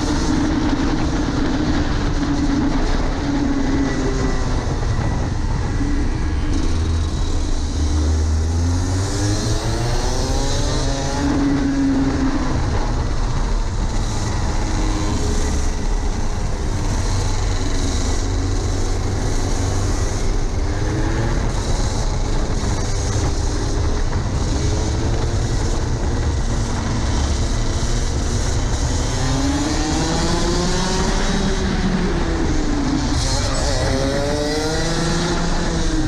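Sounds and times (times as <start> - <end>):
kart engine racing: 0.0 - 36.0
wind rumble on microphone: 0.0 - 36.0.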